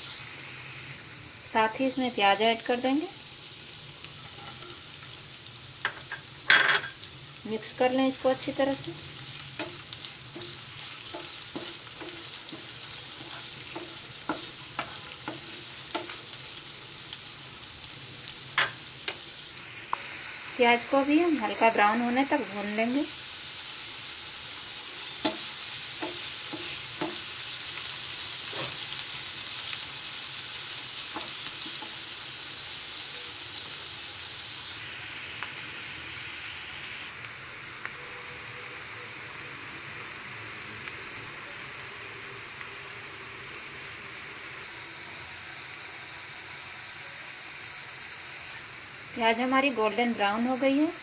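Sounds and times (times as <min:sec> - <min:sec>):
onions sizzling in frying pan: 0:00.0 - 0:51.0.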